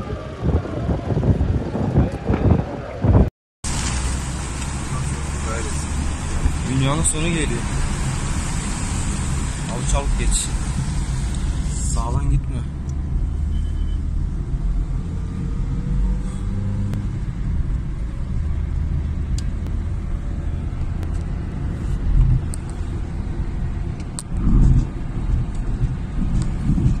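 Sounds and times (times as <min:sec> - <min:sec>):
car interior rumble: 0:00.3 - 0:27.0.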